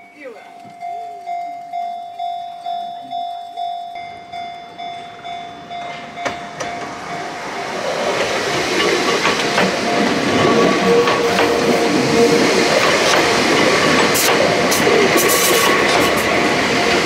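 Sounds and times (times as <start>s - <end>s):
level crossing warning bell: 0.0s - 17.0s
train rumble and wheel clatter: 0.0s - 17.0s.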